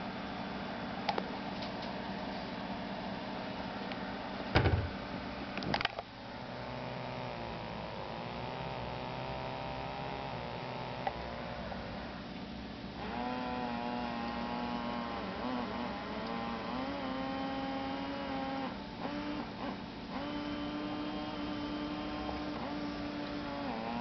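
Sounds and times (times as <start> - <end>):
small pump motor buzzing hum: 0.0 - 24.0.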